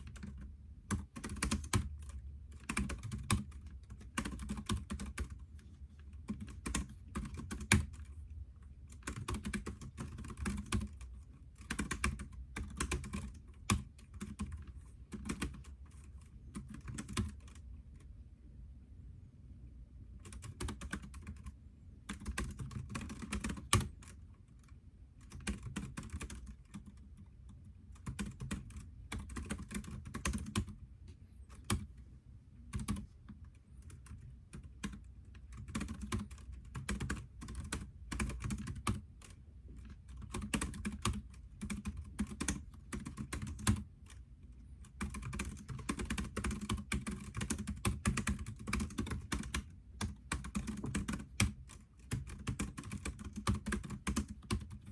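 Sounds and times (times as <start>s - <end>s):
typing on computer keyboard: 0.0s - 8.3s, 8.9s - 17.7s, 20.2s - 30.8s, 31.5s - 32.0s, 32.7s - 44.2s, 44.8s - 54.9s.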